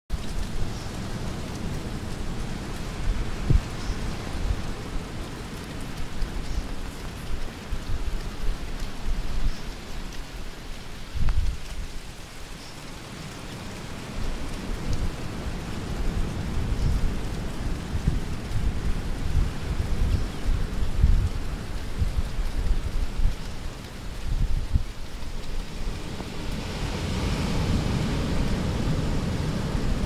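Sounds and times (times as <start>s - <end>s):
wind buffeting microphone: 0.1s - 12.3s, 13.1s - 30.0s
steady outdoor hiss: 0.1s - 30.0s.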